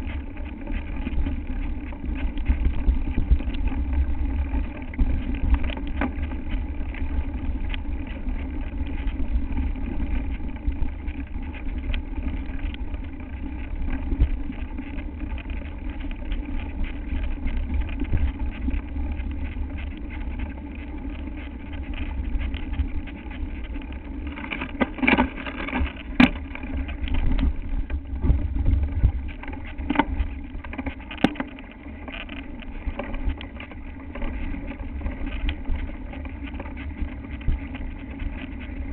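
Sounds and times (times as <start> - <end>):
bike rattling clicks and knocks: 0.0 - 38.9
bike tyres rumbling on dirt: 0.0 - 38.9
steady hum: 0.0 - 38.9
wind on microphone: 0.0 - 38.9.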